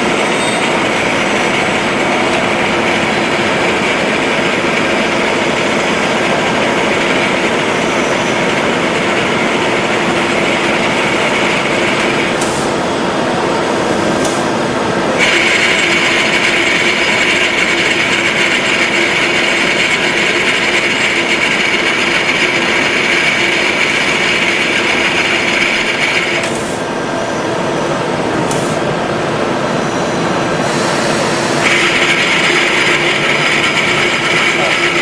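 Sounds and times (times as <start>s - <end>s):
high machine whine: 0.0s - 35.0s
milling machine whirring: 0.0s - 35.0s.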